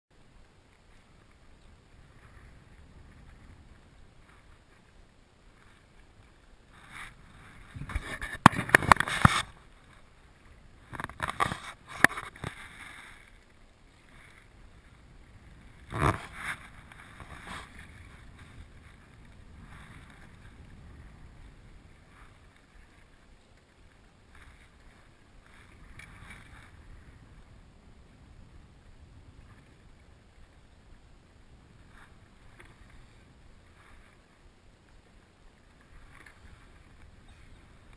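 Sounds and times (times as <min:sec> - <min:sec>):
water noise: 0:00.1 - 0:37.9
wind: 0:00.1 - 0:37.9.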